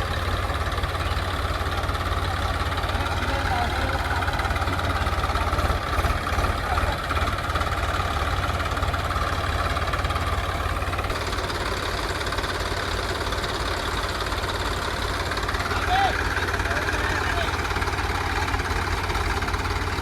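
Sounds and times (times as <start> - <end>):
diesel engine knocking: 0.0 - 20.0.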